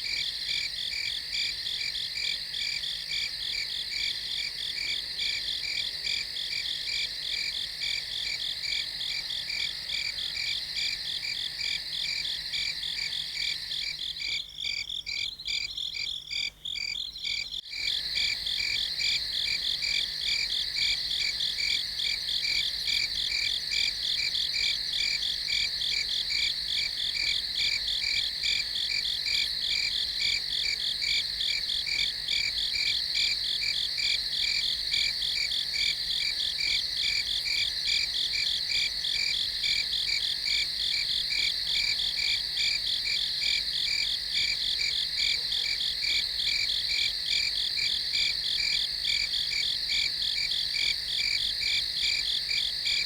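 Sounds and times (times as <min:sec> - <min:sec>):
crickets chirping in a steady trill: 0:00.0 - 0:53.0.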